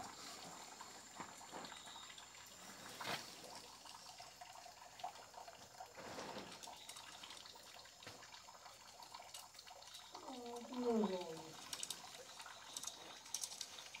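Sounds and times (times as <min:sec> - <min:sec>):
water dripping and trickling: 0:00.0 - 0:14.0.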